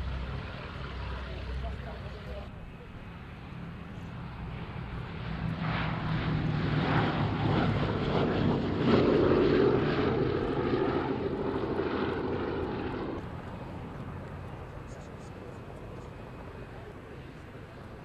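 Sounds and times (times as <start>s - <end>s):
piston aircraft engines droning: 0.0s - 18.0s.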